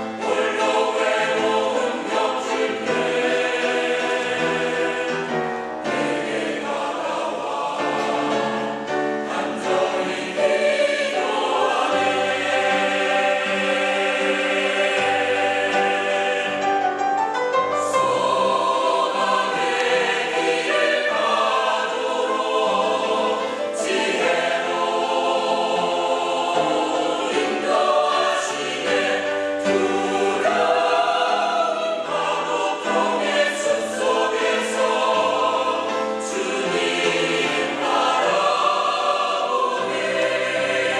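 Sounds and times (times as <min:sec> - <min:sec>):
church choir singing: 0:00.0 - 0:40.9.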